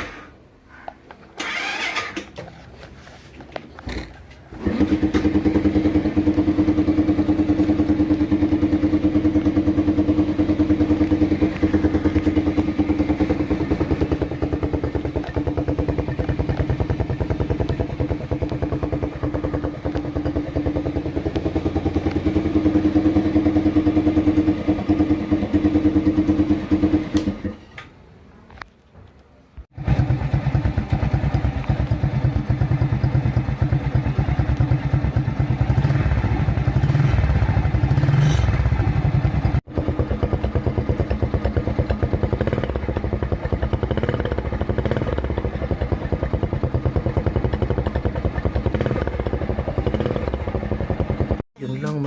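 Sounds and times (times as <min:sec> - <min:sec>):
motorcycle engine loud putter: 0:01.3 - 0:02.8, 0:03.5 - 0:28.0, 0:29.7 - 0:51.4.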